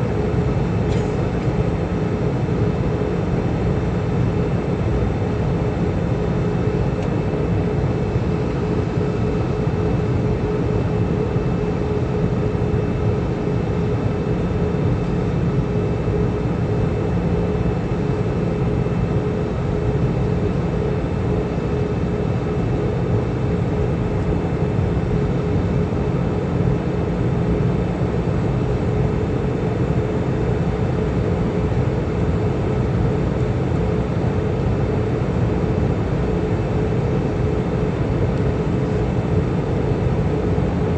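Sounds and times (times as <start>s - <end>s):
airplane cabin engine roar: 0.0s - 40.9s
constant hum: 0.0s - 40.9s.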